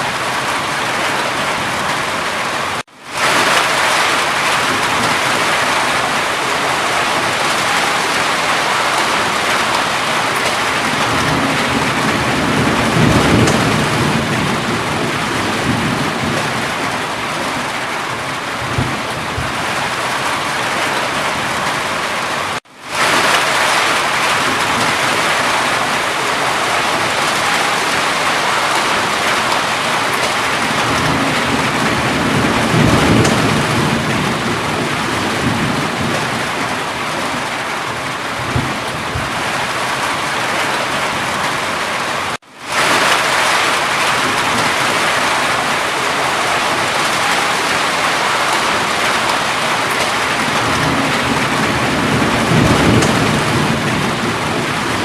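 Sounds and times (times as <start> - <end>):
heavy rainfall: 0.0 - 55.0
rumbles of thunder: 3.2 - 21.8, 23.0 - 40.3, 42.7 - 55.0.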